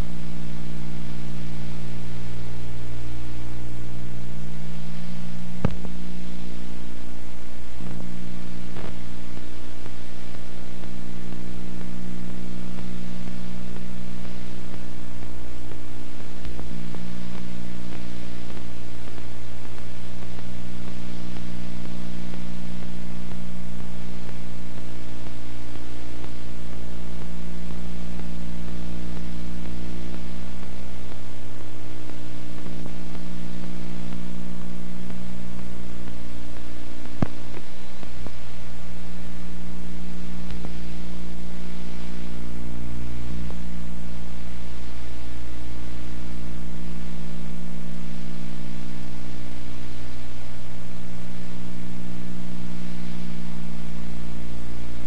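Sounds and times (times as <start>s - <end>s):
electrical hum with tape hiss: 0.0s - 55.0s.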